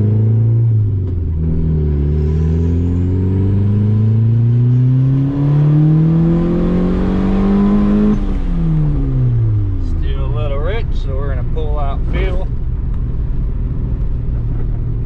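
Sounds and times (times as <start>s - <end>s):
car engine accelerating hard: 0.0s - 13.1s.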